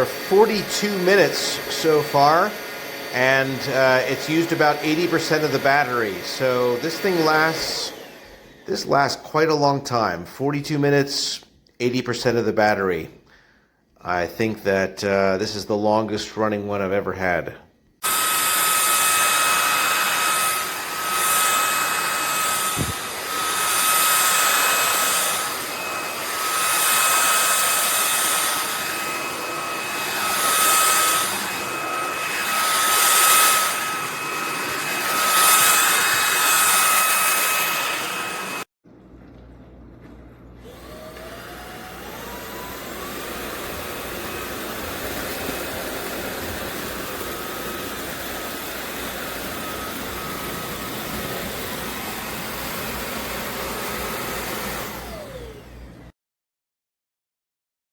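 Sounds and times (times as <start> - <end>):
stick vacuum whining: 0.0 - 9.8, 18.0 - 38.7, 39.3 - 56.1.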